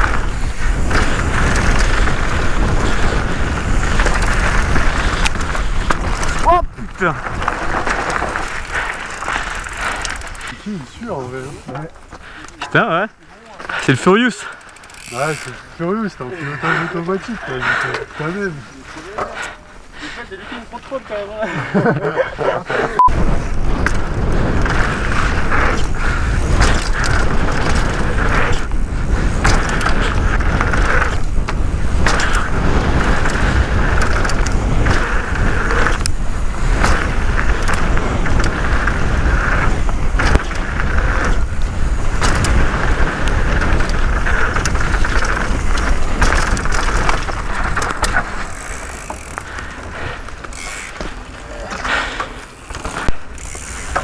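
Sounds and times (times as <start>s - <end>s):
wind buffeting microphone: 0.0s - 13.1s, 13.8s - 54.0s
bike rattling and clicking: 0.0s - 22.2s, 23.1s - 54.0s
tyres rolling on dirt: 0.0s - 54.0s.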